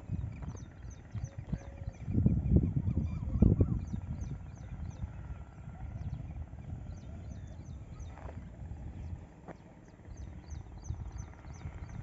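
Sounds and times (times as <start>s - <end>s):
low uneven rumble: 0.0s - 12.0s
small birds chirping: 0.0s - 12.0s.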